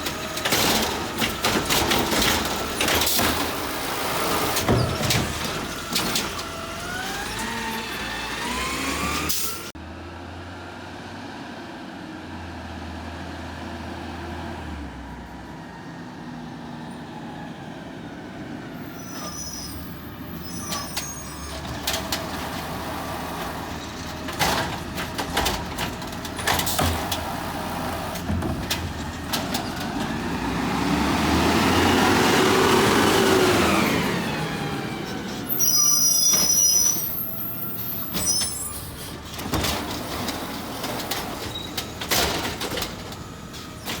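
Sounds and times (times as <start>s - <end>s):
garbage truck engine revving: 0.0s - 11.4s, 18.9s - 44.0s.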